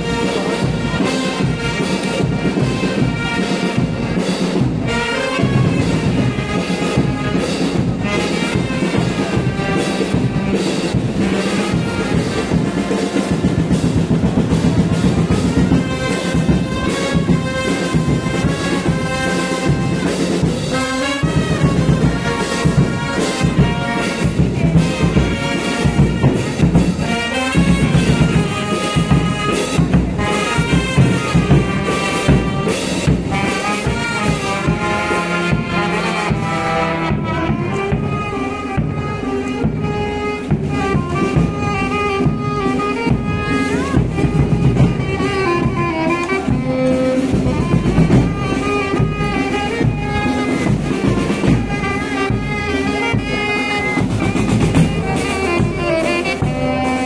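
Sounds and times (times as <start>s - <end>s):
marching band brass melody: 0.0s - 57.0s
saxophone: 0.0s - 57.0s
steady drum beats: 0.0s - 57.0s.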